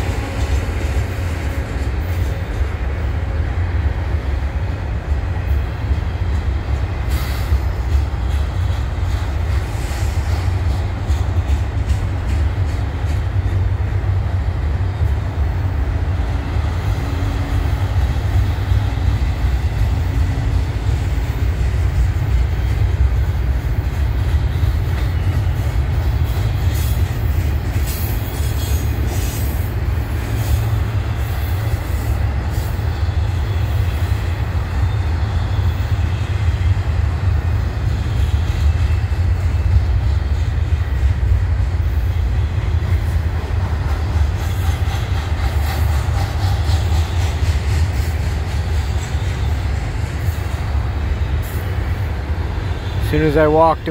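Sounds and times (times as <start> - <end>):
train rumbling on rails: 0.0 - 53.9.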